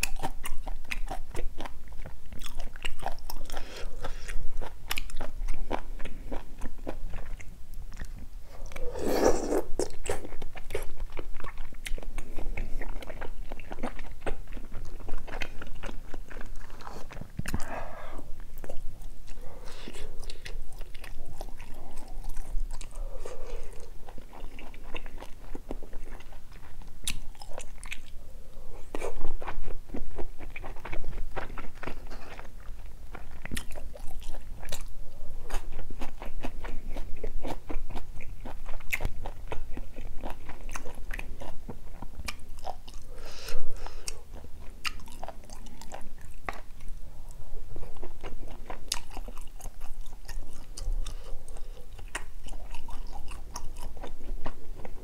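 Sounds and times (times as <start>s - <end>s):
close-miked wet chewing: 0.0s - 47.0s, 47.7s - 55.0s.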